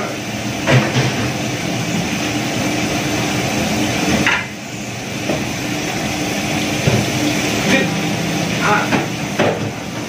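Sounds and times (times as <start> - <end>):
kitchen machinery hum and hiss: 0.0 - 10.0.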